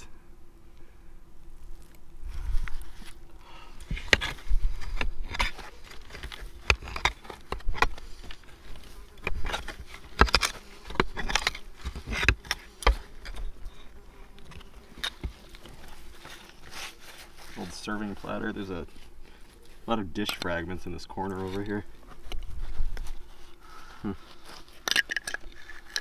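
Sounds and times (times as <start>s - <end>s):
faint steady hum: 0.0s - 26.0s
digging fork scraping through soil: 3.8s - 23.6s, 24.3s - 26.0s.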